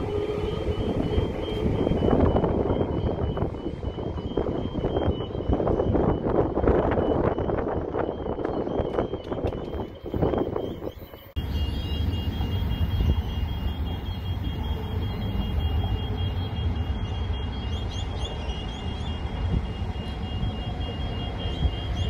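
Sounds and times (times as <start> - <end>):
rapid high electronic beeping: 0.8 - 22.0.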